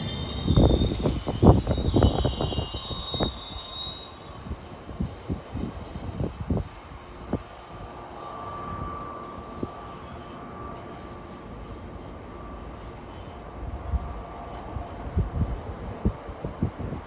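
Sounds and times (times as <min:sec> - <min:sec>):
thin squeal: 0:00.0 - 0:14.8
train rumbling past: 0:00.0 - 0:17.0.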